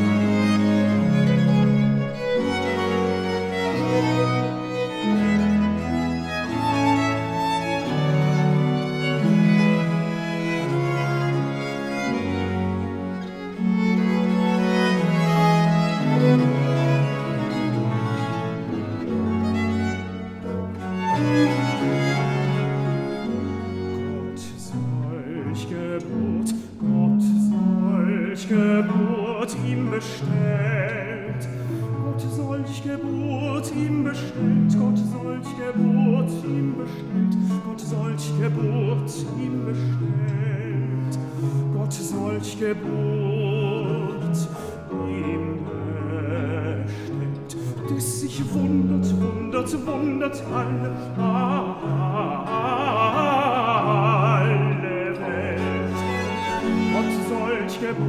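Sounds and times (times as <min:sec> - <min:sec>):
tenor singing: 0:00.0 - 0:58.0
violins and viols: 0:00.0 - 0:58.0.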